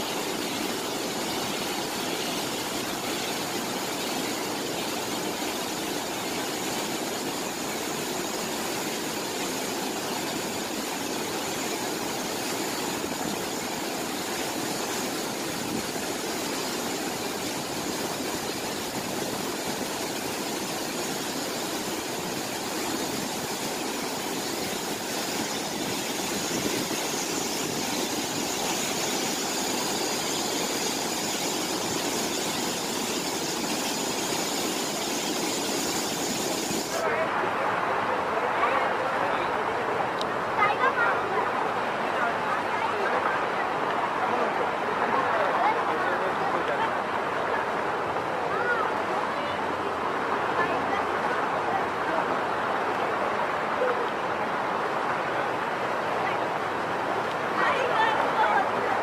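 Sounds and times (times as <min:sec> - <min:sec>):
water falling into canal: 0:00.0 - 0:59.0.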